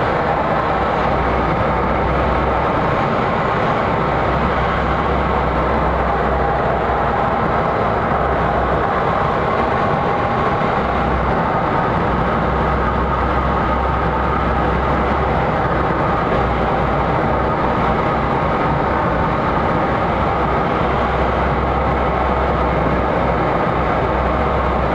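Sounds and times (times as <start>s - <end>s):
airflow rushing in cockpit: 0.0s - 24.9s.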